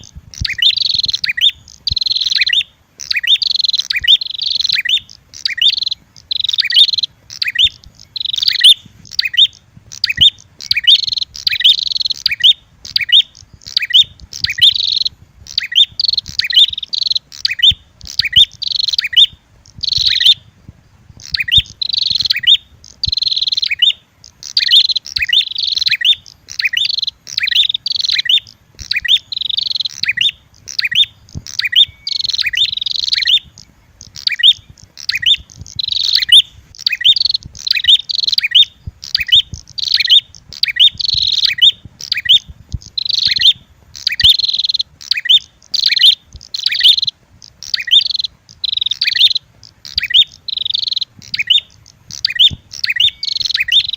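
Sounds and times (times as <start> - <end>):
agitated bird calls: 0.0 - 53.9
buzzy bird chirping: 0.0 - 53.9.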